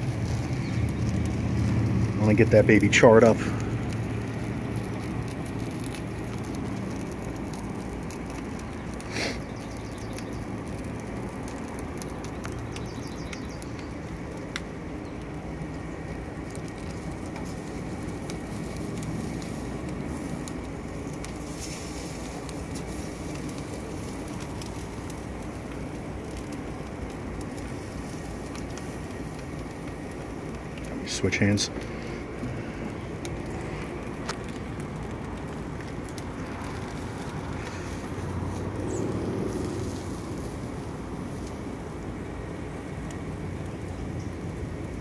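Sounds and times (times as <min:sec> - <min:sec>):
fire crackling and popping: 0:00.0 - 0:45.0
fire rushing: 0:00.0 - 0:45.0.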